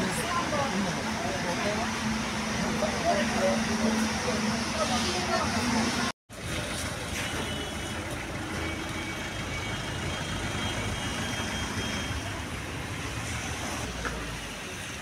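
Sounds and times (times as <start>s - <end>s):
traffic engines rumbling: 0.0s - 15.0s.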